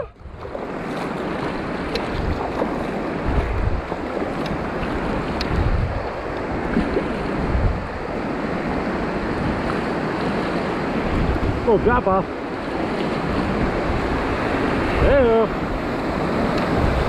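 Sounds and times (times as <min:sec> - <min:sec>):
river water rushing and splashing: 0:00.0 - 0:17.0
wind buffeting microphone: 0:00.0 - 0:17.0.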